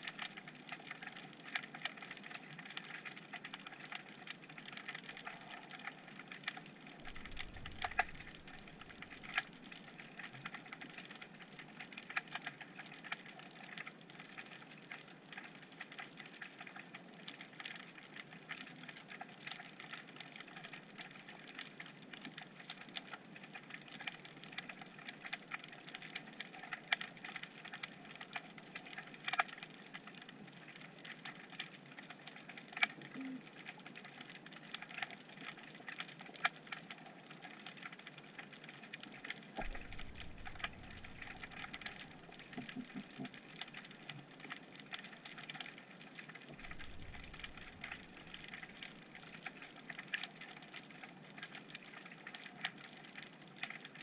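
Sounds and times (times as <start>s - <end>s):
underwater crackling clicks: 0.0s - 54.0s.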